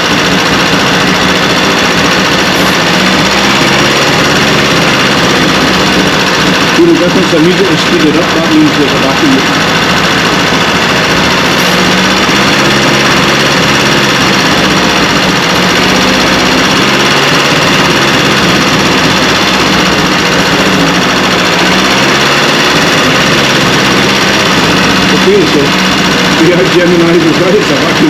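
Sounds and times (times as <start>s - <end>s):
petrol engine droning: 0.0s - 28.0s.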